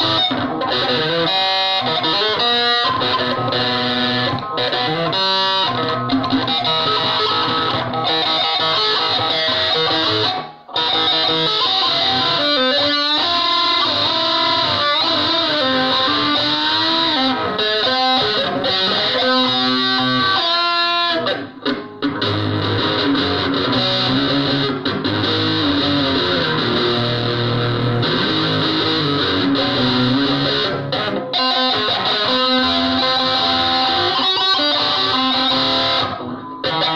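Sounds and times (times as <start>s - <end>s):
distorted electric guitar: 0.0s - 36.9s.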